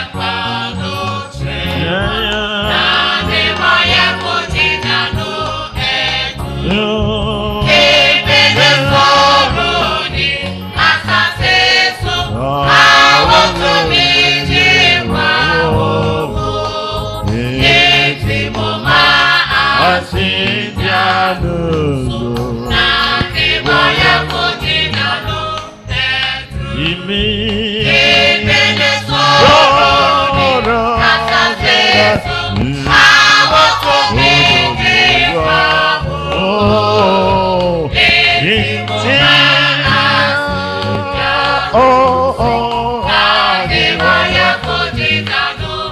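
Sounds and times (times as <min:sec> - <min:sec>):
gospel choir singing: 0:00.0 - 0:45.9
instrumental accompaniment: 0:00.0 - 0:45.9.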